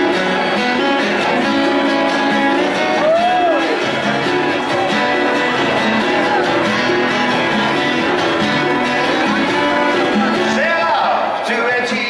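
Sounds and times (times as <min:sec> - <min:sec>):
acoustic guitars strummed and picked: 0:00.0 - 0:12.0.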